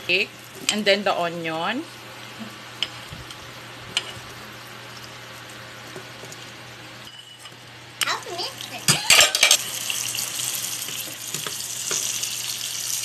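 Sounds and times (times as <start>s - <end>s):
garlic frying in hot oil: 0.0s - 13.0s.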